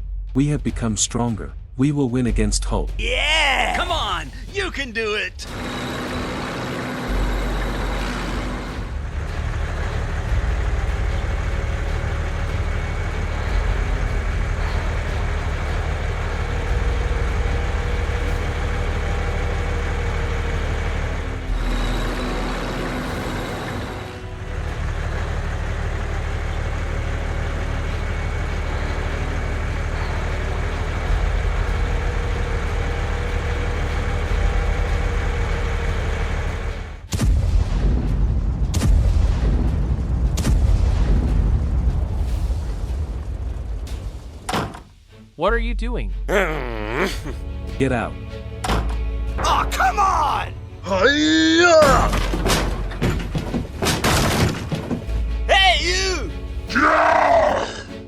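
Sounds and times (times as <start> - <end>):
heavy truck engine rumbling: 3.8 - 58.0.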